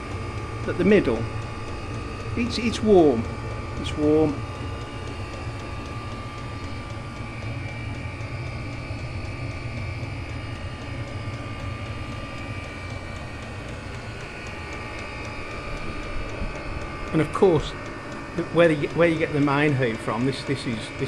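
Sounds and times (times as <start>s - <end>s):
air heater whirring drone: 0.0s - 21.0s
faint regular ticking: 0.0s - 21.0s
low hum: 0.0s - 21.0s.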